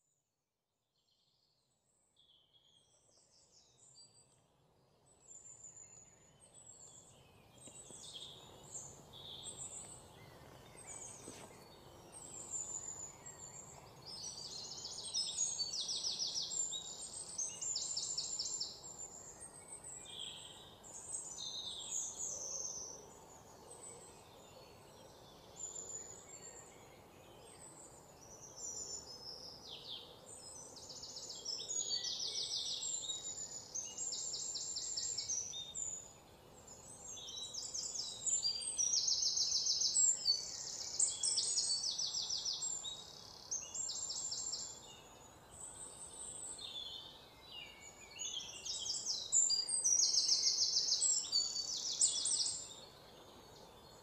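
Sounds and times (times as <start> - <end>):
faint background noise: 0.0 - 54.0
small birds chirping and trilling: 1.1 - 54.0.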